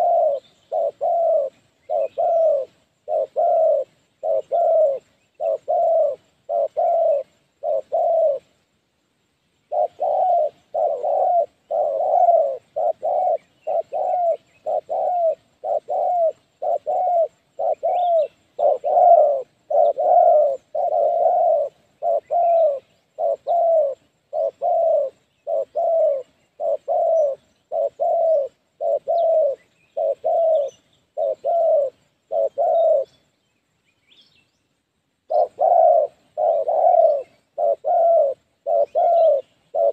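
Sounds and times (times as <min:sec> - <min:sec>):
dove cooing: 0:00.0 - 0:08.6, 0:09.6 - 0:33.3, 0:35.2 - 0:39.9.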